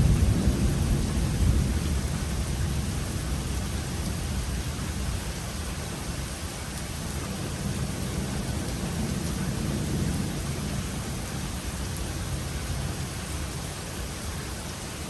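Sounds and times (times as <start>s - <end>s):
low rumble of thunder: 0.0s - 5.8s, 7.1s - 13.7s
steady rain: 0.0s - 15.0s.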